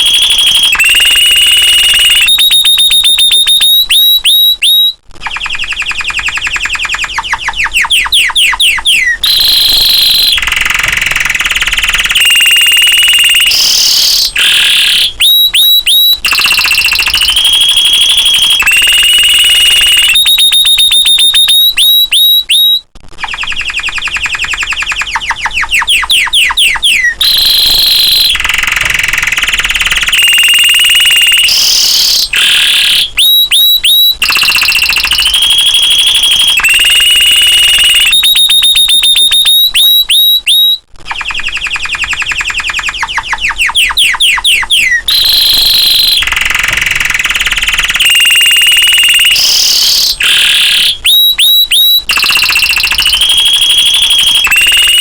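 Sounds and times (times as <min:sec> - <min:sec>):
canary singing in trills: 0:00.0 - 0:55.0.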